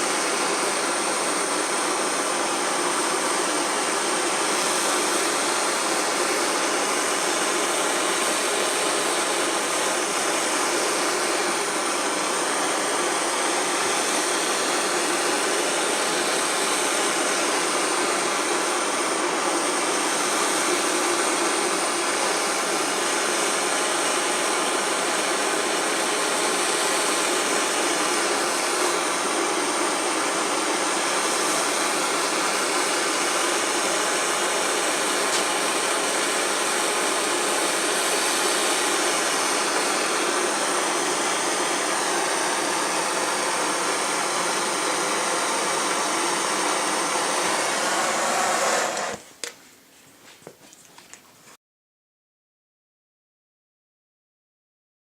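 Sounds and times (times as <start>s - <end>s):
gas blowtorch rushing: 0.0s - 49.6s.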